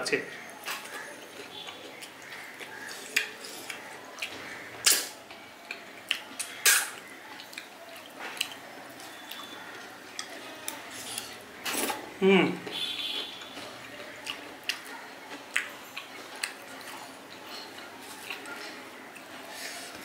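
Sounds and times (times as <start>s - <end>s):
person chewing and smacking: 0.6s - 20.0s.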